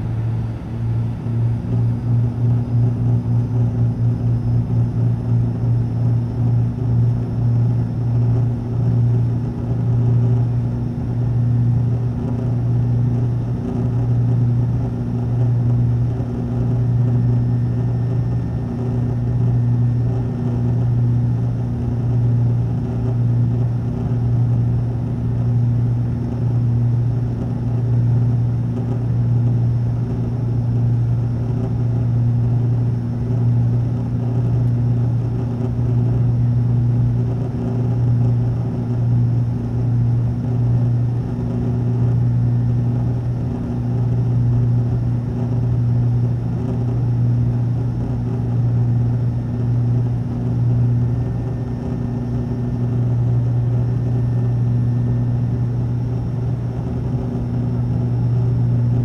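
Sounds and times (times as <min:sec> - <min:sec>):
propeller airliner cabin drone: 0:00.0 - 0:59.0.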